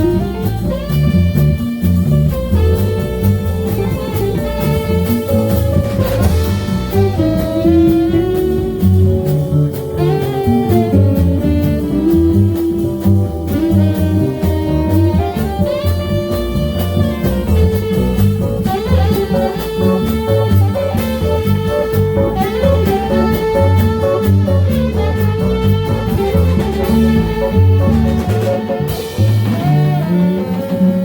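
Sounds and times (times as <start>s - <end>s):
keyboard: 0.0s - 30.8s
bass: 0.0s - 31.0s
drum kit cymbals: 0.0s - 31.0s
guitar: 0.0s - 31.0s
saxophone melody: 0.0s - 31.0s.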